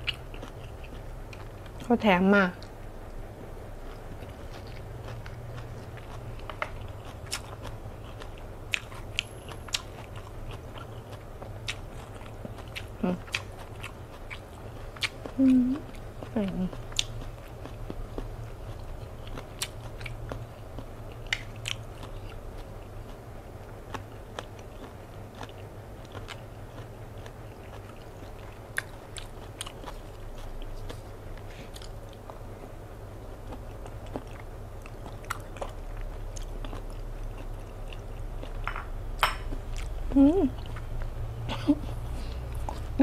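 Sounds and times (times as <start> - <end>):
chewing raw fish: 0.0 - 1.9, 3.8 - 32.5, 33.4 - 38.6
steady low hum: 0.0 - 43.0.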